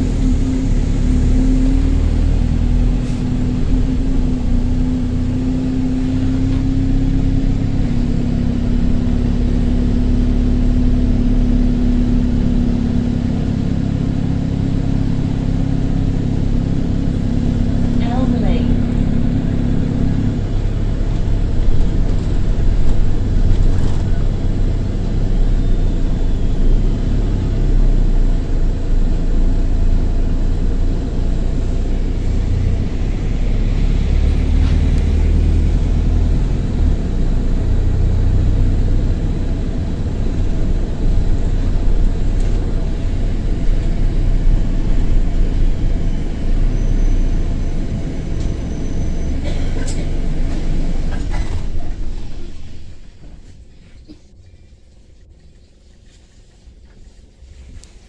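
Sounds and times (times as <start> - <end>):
bus diesel engine rumbling: 0.0 - 58.0.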